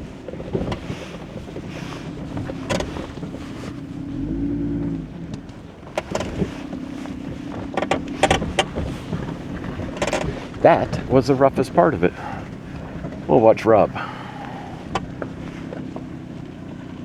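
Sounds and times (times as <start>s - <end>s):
off-road vehicle engine crawling: 0.0s - 17.0s
vehicle knocking over rocks: 0.0s - 17.0s.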